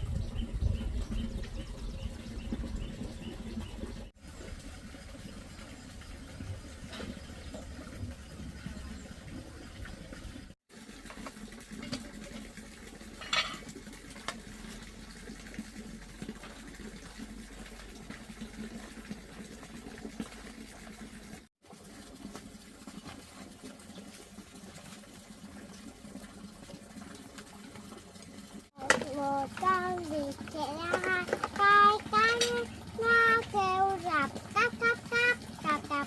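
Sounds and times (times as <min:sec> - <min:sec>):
water running: 0:00.0 - 0:36.0.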